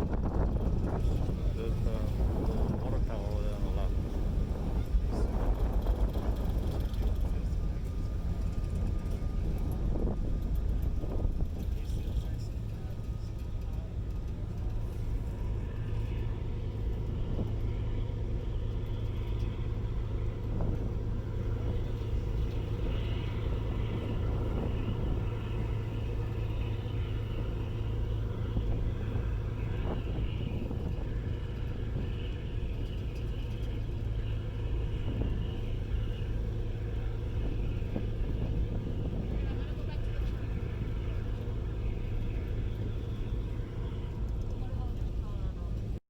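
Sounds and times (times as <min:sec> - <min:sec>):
ship engines droning: 0:00.0 - 0:46.0.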